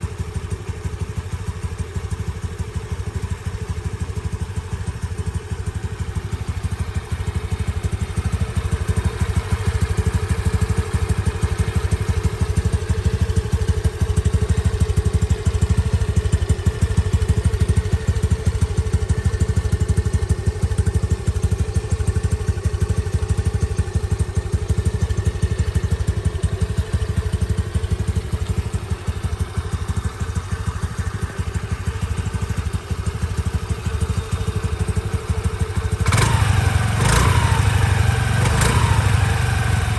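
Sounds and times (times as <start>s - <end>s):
small engine idling: 0.0s - 39.9s.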